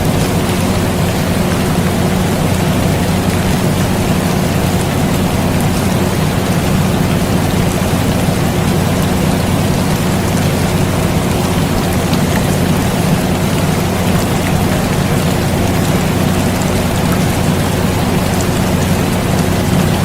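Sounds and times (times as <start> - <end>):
air conditioner humming: 0.0 - 20.0
continuous rain: 0.0 - 20.0.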